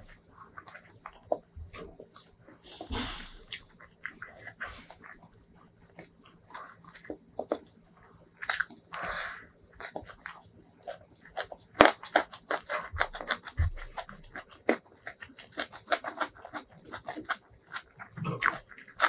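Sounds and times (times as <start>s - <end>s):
wet chewing and mouth smacks: 0.0s - 7.8s, 8.4s - 19.0s
fingers squishing rice: 0.0s - 19.0s.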